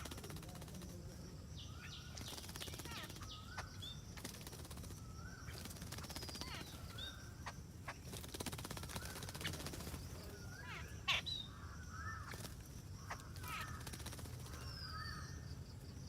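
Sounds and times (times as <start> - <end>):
birds chirping and whistling: 1.5 - 15.6.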